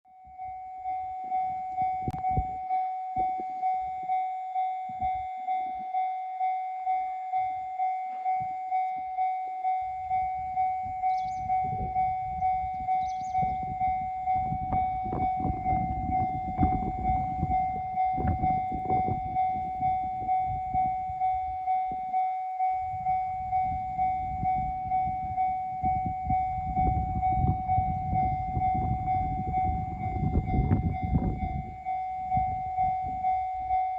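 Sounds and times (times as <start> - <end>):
level crossing warning bell: 0.1 - 33.9
train passing with wheel clatter: 4.8 - 33.9.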